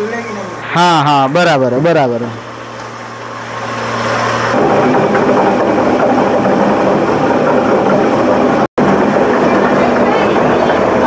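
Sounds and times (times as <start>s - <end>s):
machine motor humming: 0.0s - 11.0s.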